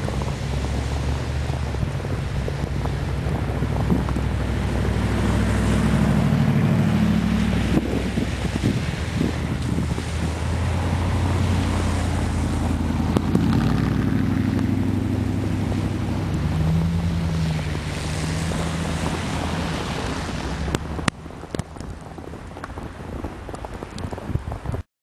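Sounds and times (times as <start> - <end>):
vehicle engine running low: 0.0 - 24.8
wind buffeting microphone: 0.0 - 24.8.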